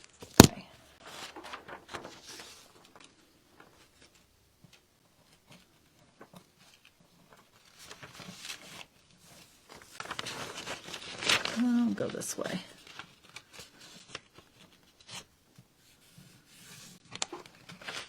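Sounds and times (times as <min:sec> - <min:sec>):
paper rustling: 0:00.0 - 0:18.0.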